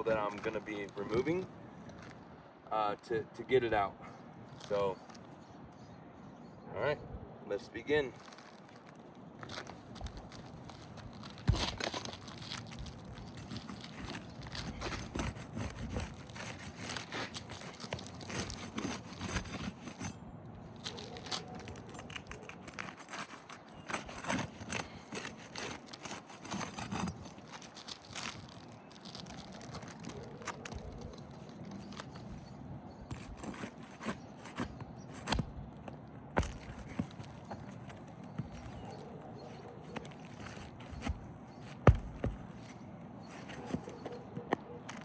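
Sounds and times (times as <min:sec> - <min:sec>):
roofing nails scraping loose: 0:08.2 - 0:45.0.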